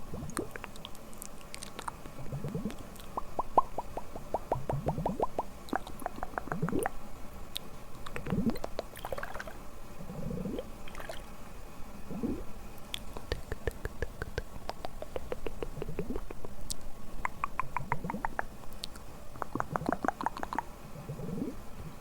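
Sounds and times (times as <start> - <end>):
tongue and lip clicks: 0.1 - 9.5, 12.1 - 21.6.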